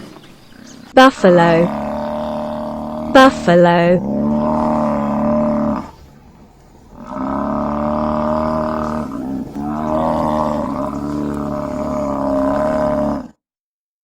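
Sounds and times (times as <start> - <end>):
buffalo calling: 1.0 - 13.3.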